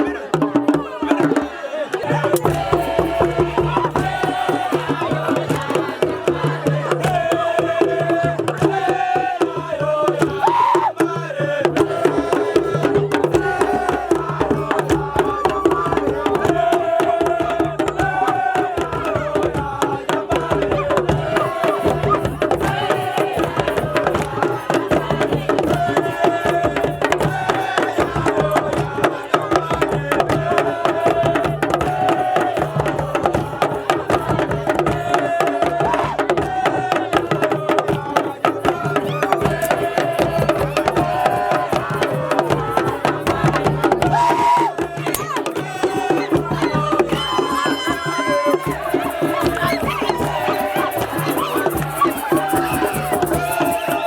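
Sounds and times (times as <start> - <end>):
fast dense drumming: 0.0 - 54.0.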